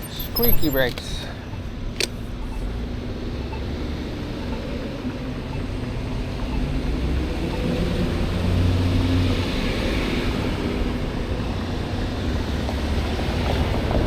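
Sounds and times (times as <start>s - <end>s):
passing vehicle engine and tyres: 0.0s - 14.0s
steady low traffic rumble: 0.0s - 14.0s.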